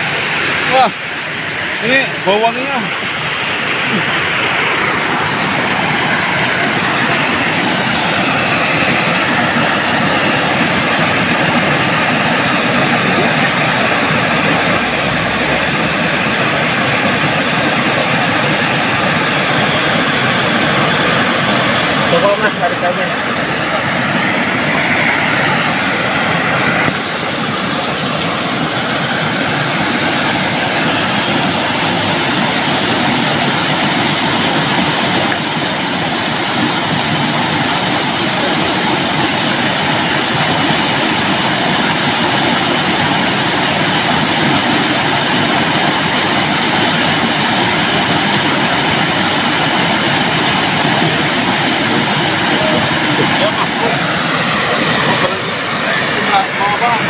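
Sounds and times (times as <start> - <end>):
fast-flowing river rushing: 0.0 - 57.0.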